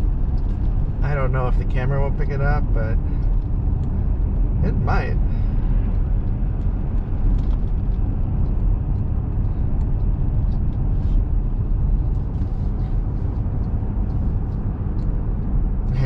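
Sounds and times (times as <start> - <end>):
road and engine rumble: 0.0 - 16.0.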